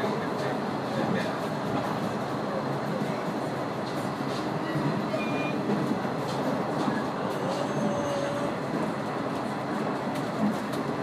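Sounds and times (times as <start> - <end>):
railcar engine and wheels rumbling: 0.0 - 11.0.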